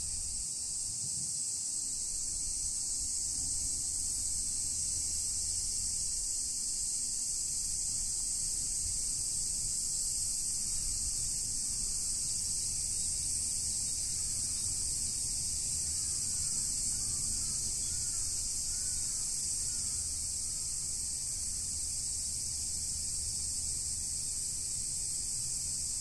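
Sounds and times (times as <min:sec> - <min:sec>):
insects chorus: 0:00.0 - 0:26.0.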